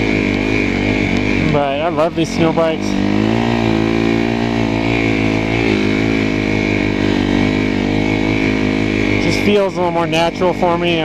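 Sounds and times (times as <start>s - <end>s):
snow bike engine running: 0.0s - 11.0s.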